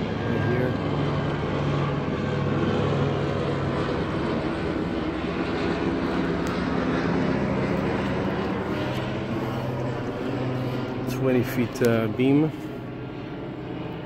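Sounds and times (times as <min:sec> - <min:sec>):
mechanical drone with low hum: 0:00.0 - 0:14.0.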